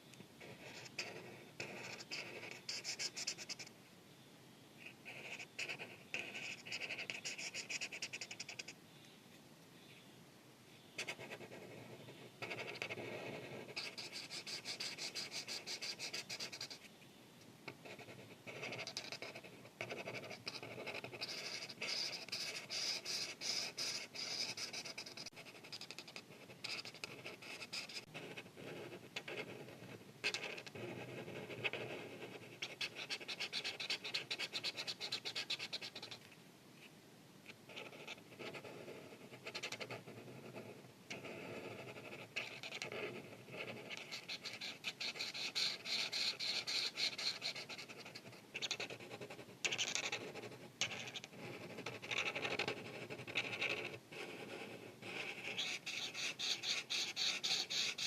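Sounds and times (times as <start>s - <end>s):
marker scratching on paper: 0.4s - 3.7s, 5.0s - 8.8s, 11.0s - 16.9s, 17.8s - 36.2s, 37.7s - 58.0s.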